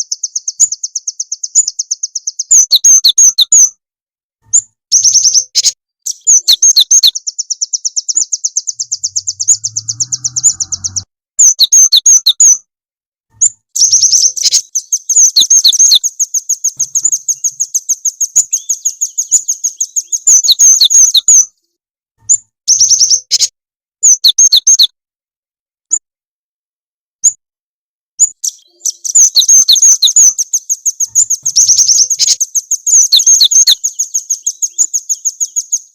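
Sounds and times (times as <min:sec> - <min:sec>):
songbird trilling high chirps: 0:00.0 - 0:03.7, 0:04.5 - 0:12.6, 0:13.4 - 0:21.6, 0:22.3 - 0:24.9, 0:28.2 - 0:35.9.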